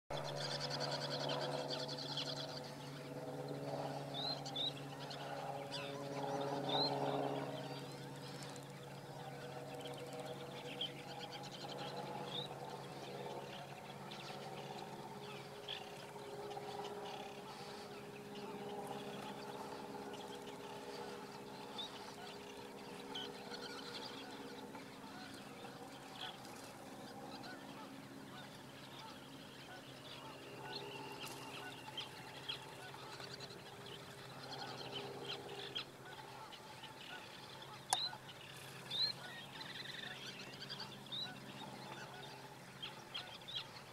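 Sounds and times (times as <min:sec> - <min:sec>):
faint low steady drone: 0:00.1 - 0:43.9.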